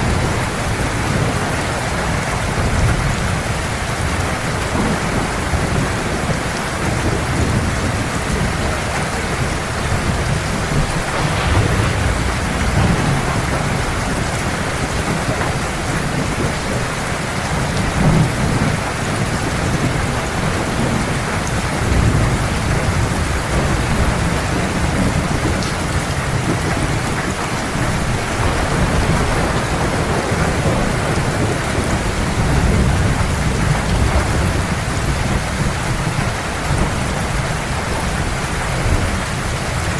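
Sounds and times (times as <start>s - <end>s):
low thunder rumbling: 0.0s - 37.1s
heavy rain pouring: 0.0s - 39.9s.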